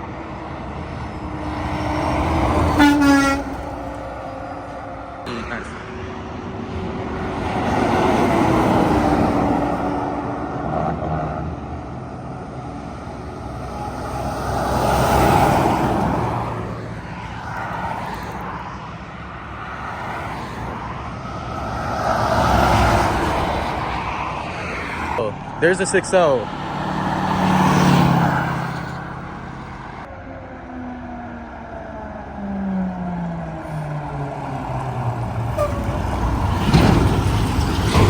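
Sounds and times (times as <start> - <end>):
highway traffic passing: 0.0 - 38.0.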